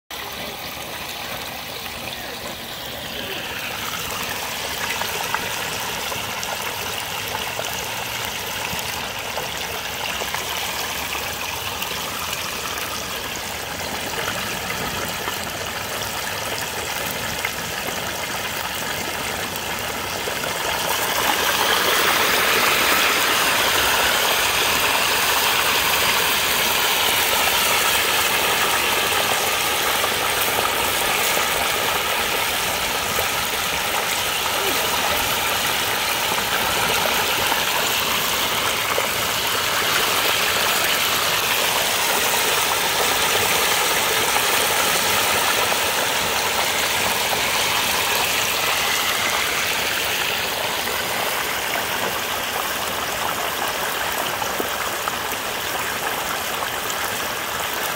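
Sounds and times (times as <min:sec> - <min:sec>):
oil bubbling and sizzling: 0:00.1 - 0:57.9.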